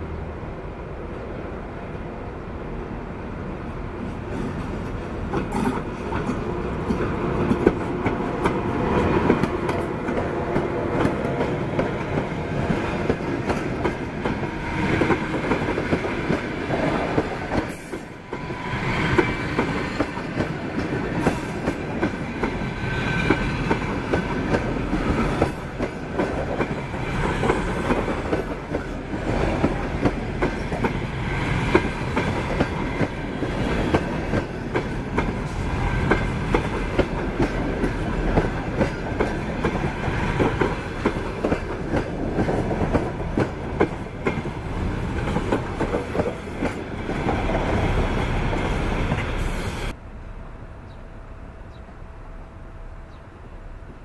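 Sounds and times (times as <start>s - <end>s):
train passing close by: 0.0s - 54.0s.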